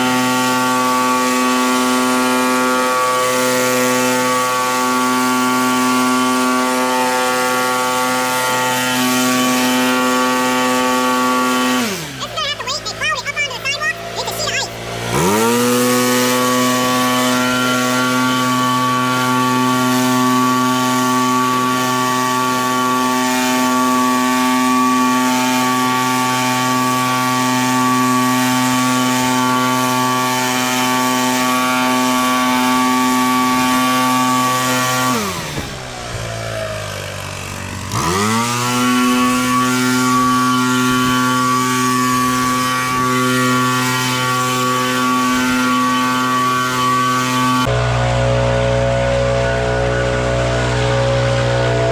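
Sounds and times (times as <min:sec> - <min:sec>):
small petrol engine running: 0:00.0 - 0:51.9.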